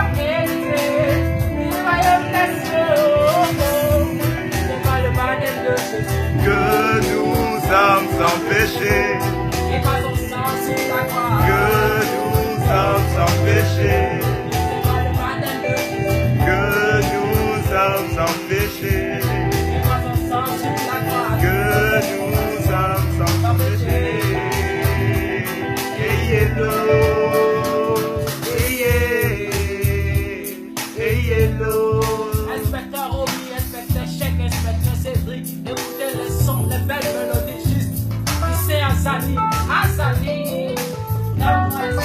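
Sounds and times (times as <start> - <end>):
reggae band music: 0.0 - 42.0.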